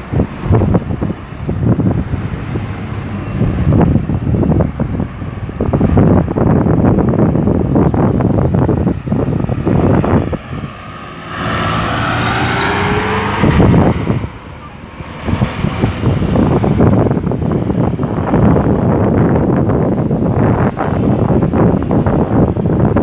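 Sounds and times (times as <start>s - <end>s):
cars and trucks passing: 0.0s - 23.0s
wind buffeting microphone: 0.0s - 23.0s.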